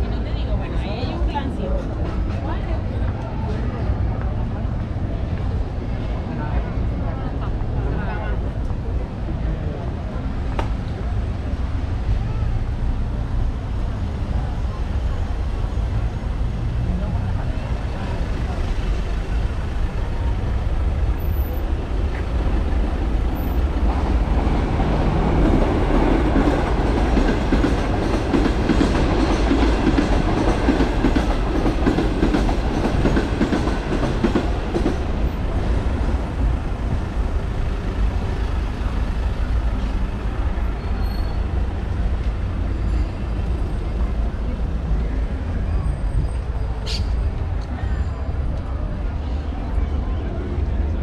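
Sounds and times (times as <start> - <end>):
traffic rumble: 0.0 - 51.0
train crossing viaduct: 0.0 - 51.0.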